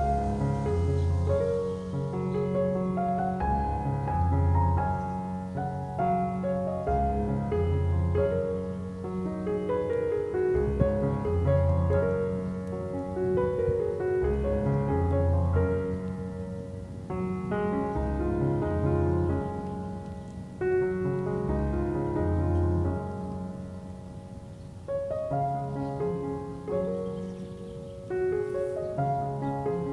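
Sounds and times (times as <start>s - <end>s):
soft piano music: 0.0s - 29.9s.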